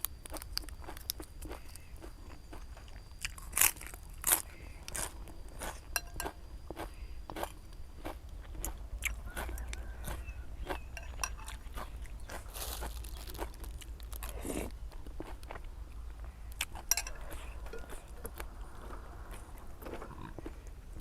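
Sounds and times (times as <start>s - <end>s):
person chewing crunchy food: 0.0s - 21.0s.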